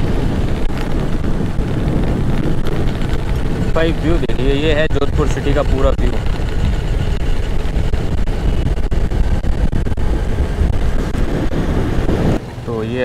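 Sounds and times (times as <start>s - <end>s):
scooter road and engine noise: 0.0s - 13.0s
wind buffeting microphone: 0.0s - 13.0s.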